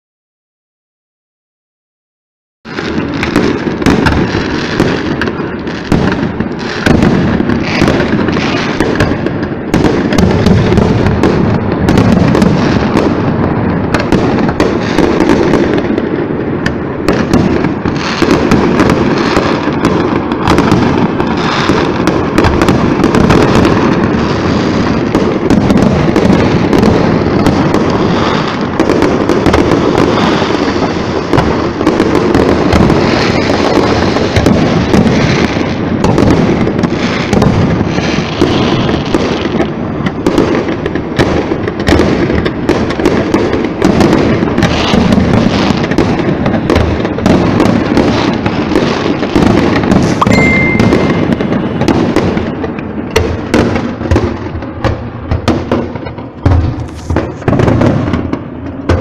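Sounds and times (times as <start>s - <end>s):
fireworks bursting: 2.7s - 59.0s.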